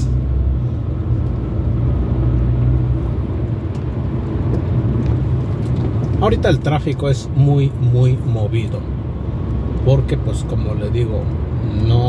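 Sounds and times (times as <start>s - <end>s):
car interior engine and tyre rumble: 0.0s - 12.0s.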